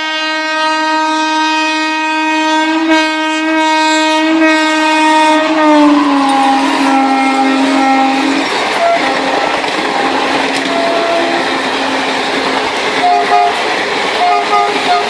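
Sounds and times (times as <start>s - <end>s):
train horn blast: 0.0s - 12.2s, 13.0s - 15.0s
train rattling: 2.5s - 15.0s.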